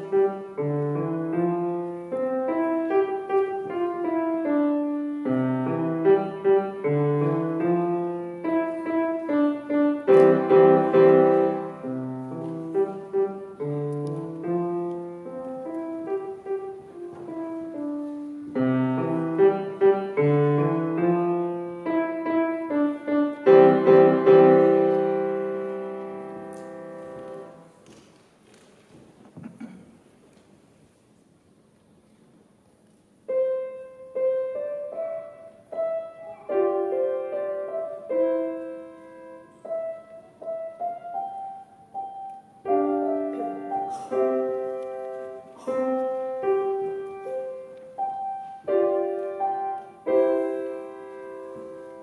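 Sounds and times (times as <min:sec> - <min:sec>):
solo grand piano melody: 0:00.0 - 0:52.0.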